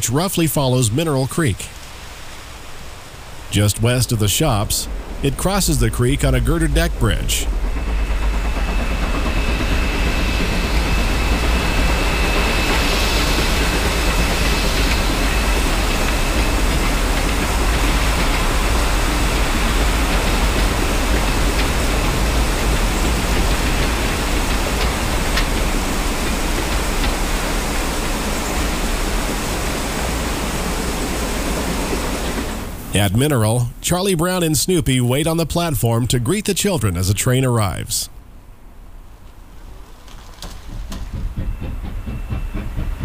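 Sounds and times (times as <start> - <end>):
train crossing steel bridge: 0.0 - 43.0.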